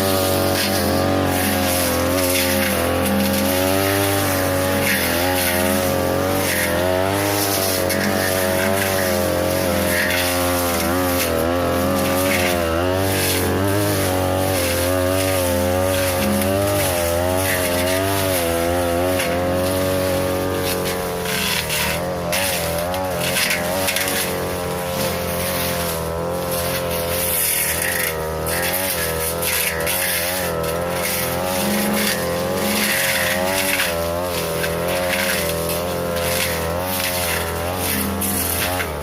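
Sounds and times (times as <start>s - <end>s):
brush cutter engine running: 0.0s - 39.0s
cut stems crackling: 0.0s - 39.0s.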